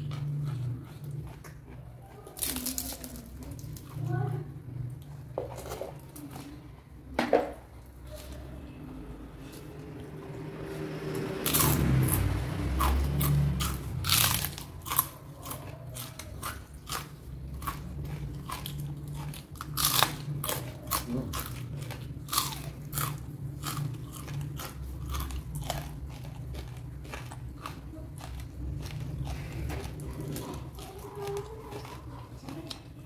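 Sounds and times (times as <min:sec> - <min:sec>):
person chewing crunchy food: 0:00.0 - 0:04.1, 0:09.4 - 0:33.0.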